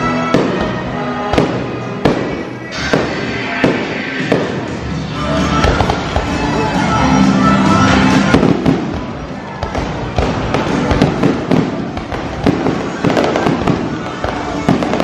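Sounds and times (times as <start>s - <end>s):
fireworks popping and banging: 0.0s - 4.9s, 5.5s - 6.7s, 8.0s - 15.0s
music playing: 0.0s - 15.0s.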